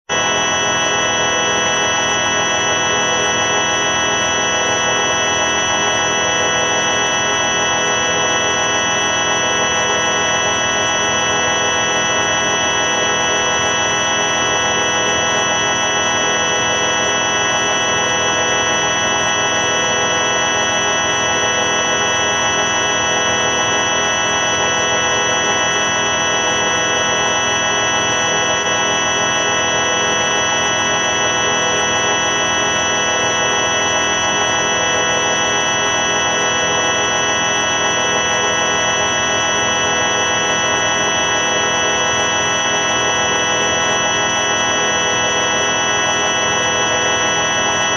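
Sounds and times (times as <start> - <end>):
electronic drone with organ-like buzz: 0.1 - 47.9.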